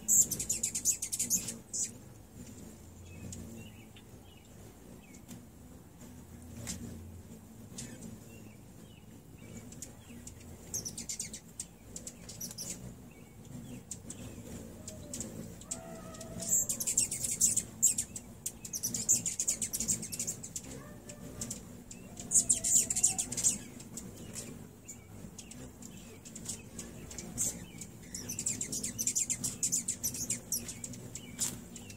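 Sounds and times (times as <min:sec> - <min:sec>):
hummingbirds chittering: 0:00.0 - 0:31.9.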